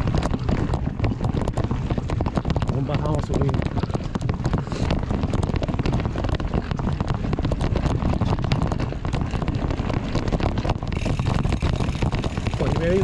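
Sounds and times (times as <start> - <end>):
bike rattling over bumps: 0.0 - 13.0
bike tyres rumbling on dirt: 0.0 - 13.0
wind buffeting microphone: 0.0 - 13.0.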